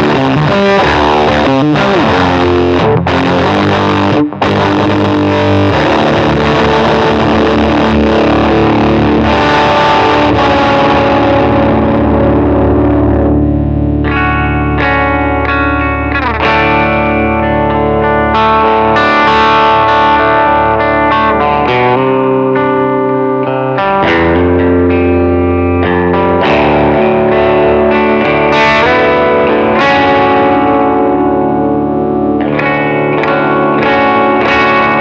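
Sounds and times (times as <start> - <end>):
fuzzed electric guitar: 0.0 - 35.0.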